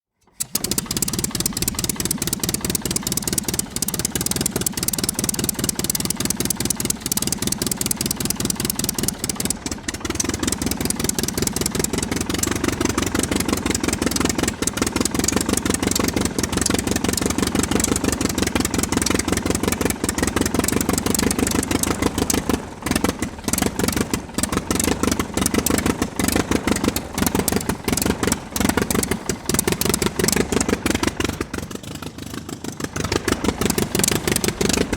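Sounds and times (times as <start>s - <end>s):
piston engine running: 0.2s - 32.1s, 32.8s - 34.9s.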